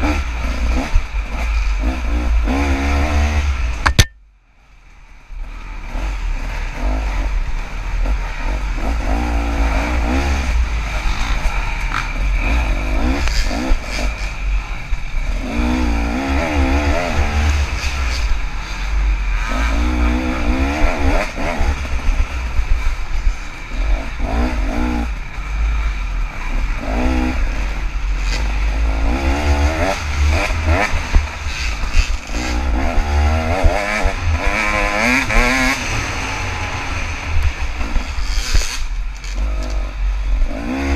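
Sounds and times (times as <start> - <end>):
dirt bike engine revving: 0.0 - 4.1, 5.4 - 40.9.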